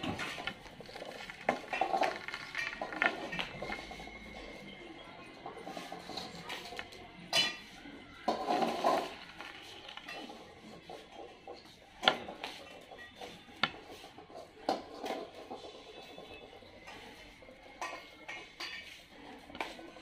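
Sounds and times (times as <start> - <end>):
metal bowls clanking: 0.0 - 20.0
metal bowls scraping: 0.0 - 20.0.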